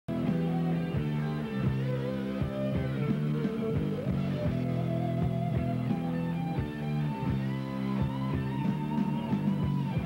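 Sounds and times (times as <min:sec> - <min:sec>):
music with held low notes: 0:00.1 - 0:10.0.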